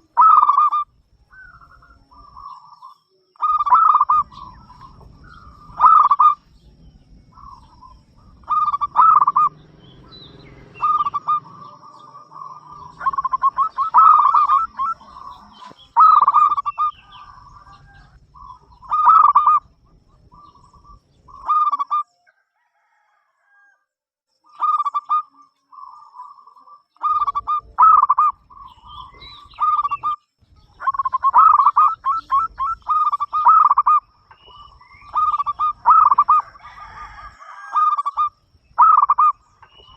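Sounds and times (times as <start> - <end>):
dove cooing: 0.0 - 2.8, 3.4 - 22.0, 24.6 - 39.9.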